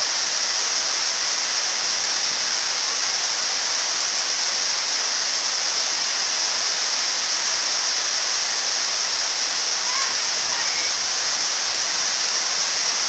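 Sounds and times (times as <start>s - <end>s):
flood water rushing: 0.0s - 13.0s
heavy rain hissing: 0.0s - 13.0s.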